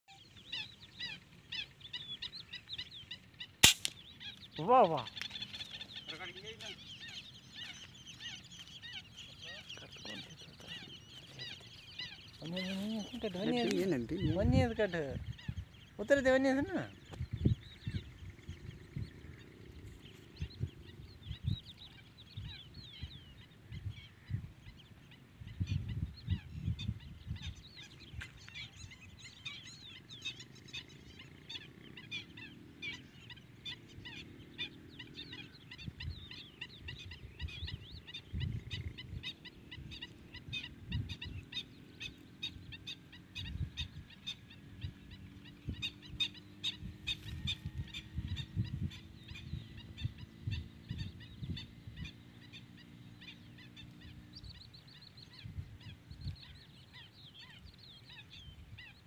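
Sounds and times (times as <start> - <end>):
small birds chirping: 0.1 - 59.0
wind rumbling on microphone: 0.2 - 59.0.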